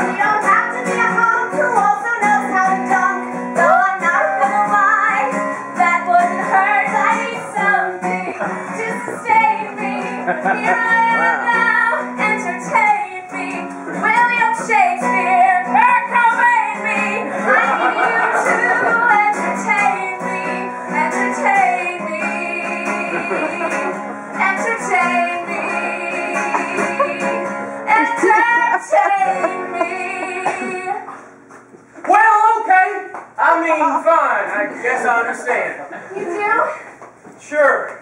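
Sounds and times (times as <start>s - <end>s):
person singing: 0.0s - 31.2s
strummed guitar chords: 0.0s - 32.0s.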